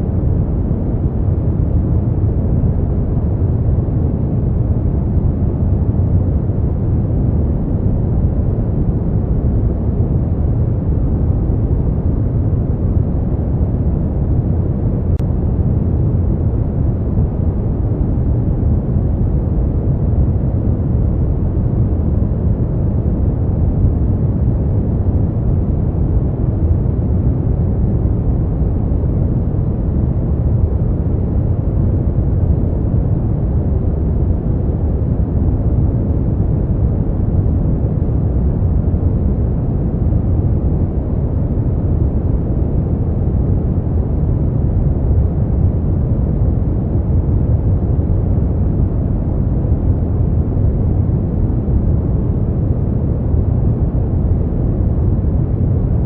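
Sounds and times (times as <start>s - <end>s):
deep rumbling noise: 0.0s - 56.0s.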